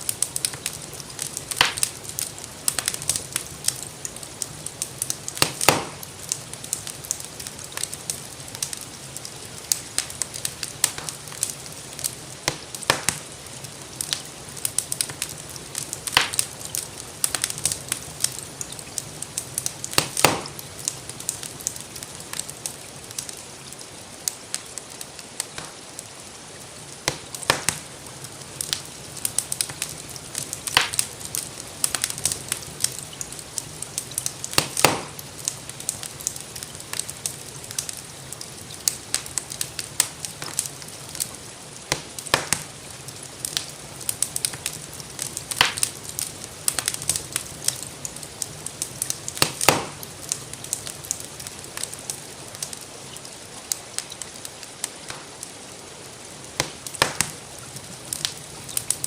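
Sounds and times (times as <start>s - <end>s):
gentle rain: 0.0s - 59.0s
wood fire crackling: 0.0s - 59.0s.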